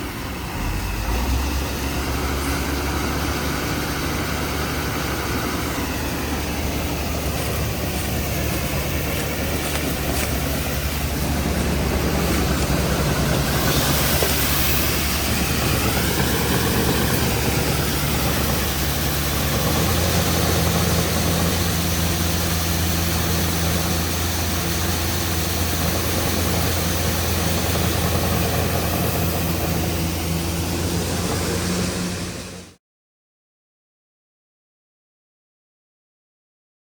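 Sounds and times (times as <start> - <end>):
diesel engine running: 0.0 - 32.8.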